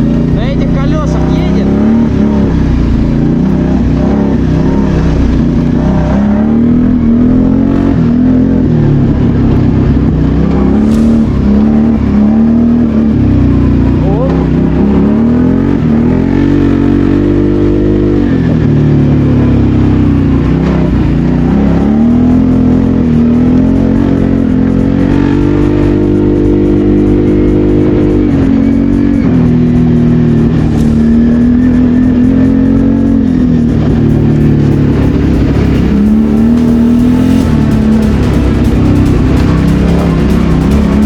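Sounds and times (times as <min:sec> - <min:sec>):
quad engine revving under load: 0:00.0 - 0:41.0.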